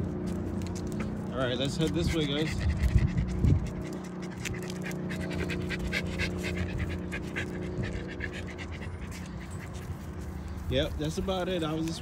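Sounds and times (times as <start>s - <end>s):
dog panting: 0.7s - 12.0s.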